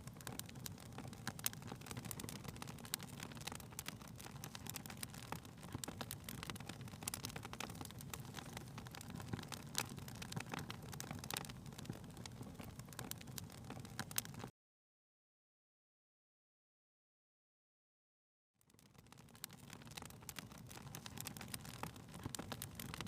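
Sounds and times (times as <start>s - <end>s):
fire rumbling: 0.0s - 14.5s, 18.7s - 23.0s
logs crackling and popping: 0.0s - 14.5s, 18.6s - 23.0s.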